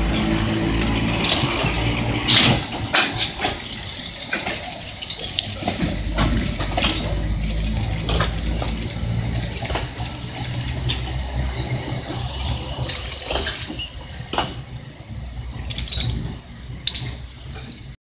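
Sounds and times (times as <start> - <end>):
train wheels clicking and clanking: 0.0 - 18.0.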